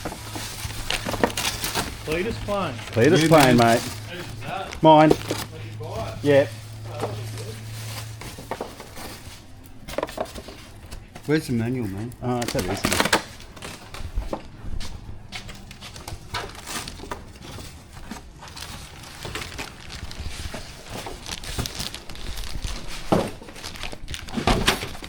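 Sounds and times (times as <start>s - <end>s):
plastic and cardboard rustling: 0.0s - 25.0s.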